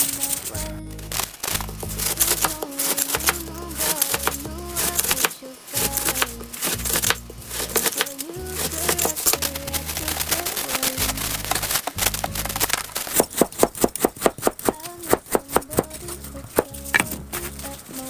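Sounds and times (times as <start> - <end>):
music with singing voice: 0.0 - 13.2, 14.4 - 18.0
sharp clicks: 1.2 - 17.8.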